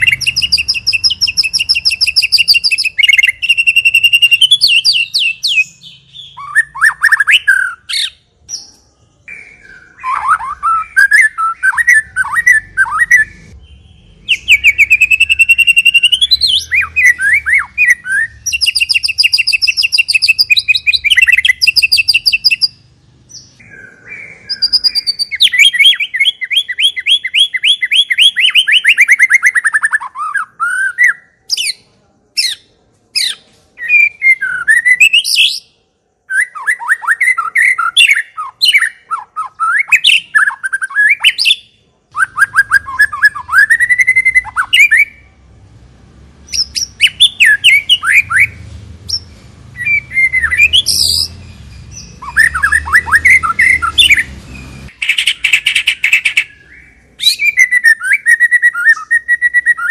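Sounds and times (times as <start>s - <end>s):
bird singing trills and whistles: 0.0s - 31.8s, 33.2s - 35.7s, 36.3s - 45.2s, 46.5s - 59.9s.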